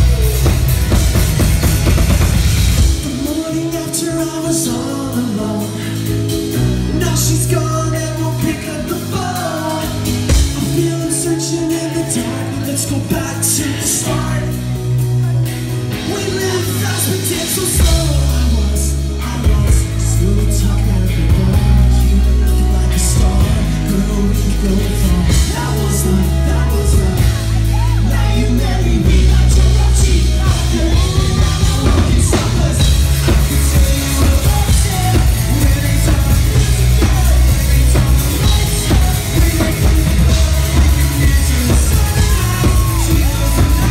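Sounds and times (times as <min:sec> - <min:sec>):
bass guitar: 0:00.0 - 0:43.9
distorted electric guitar: 0:00.0 - 0:43.9
drum kit beat: 0:00.0 - 0:43.9
person singing: 0:00.0 - 0:43.9.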